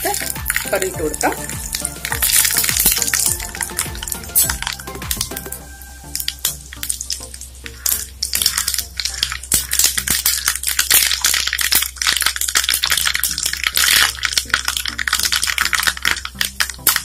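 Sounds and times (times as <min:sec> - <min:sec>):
mustard seeds popping in hot oil: 0:00.0 - 0:17.0.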